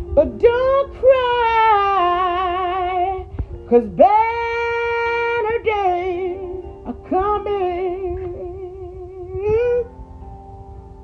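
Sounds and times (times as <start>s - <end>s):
woman singing with vibrato: 0.0s - 10.0s
backing music: 0.0s - 11.0s.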